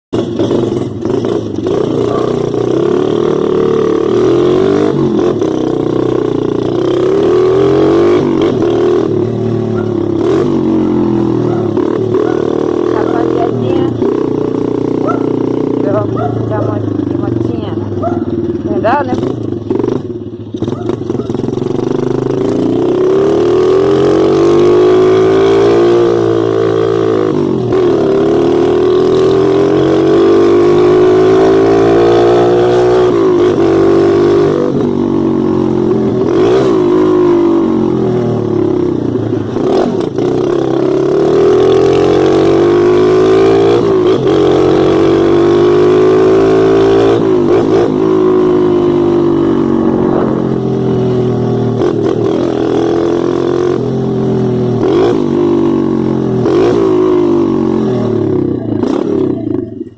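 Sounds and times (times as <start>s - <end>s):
mini motorcycle engine revving: 0.2s - 59.9s.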